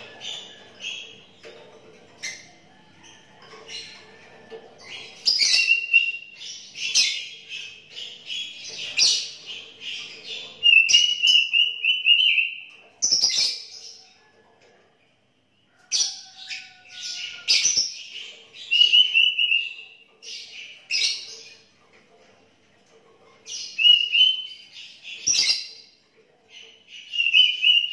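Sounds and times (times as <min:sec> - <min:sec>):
bird singing chirps and trills: 0:00.0 - 0:14.4, 0:15.7 - 0:22.0, 0:22.8 - 0:27.9.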